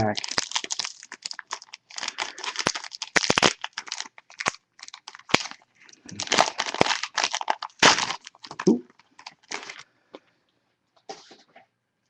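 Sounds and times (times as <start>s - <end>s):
foil wrapper tearing and crinkling: 0.0s - 9.8s.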